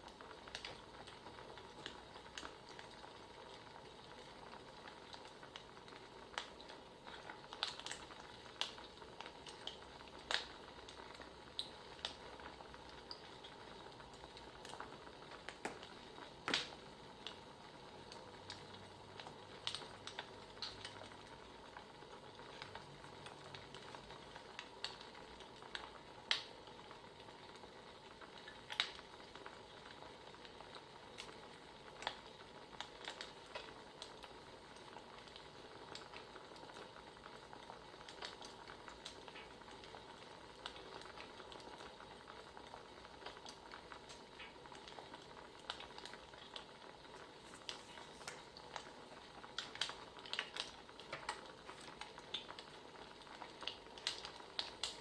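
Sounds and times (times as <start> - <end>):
crackling wood fire: 0.0 - 55.0.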